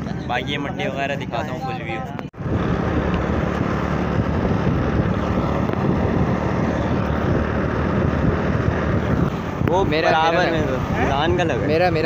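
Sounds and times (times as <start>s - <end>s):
road noise: 0.0s - 12.0s
vehicle engine rumble: 0.0s - 12.0s
wind buffeting microphone: 1.7s - 12.0s.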